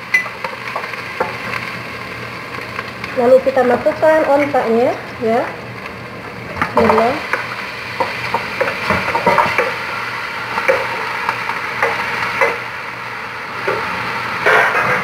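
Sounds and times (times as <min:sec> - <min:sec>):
meat and onions sizzling: 0:00.0 - 0:15.0.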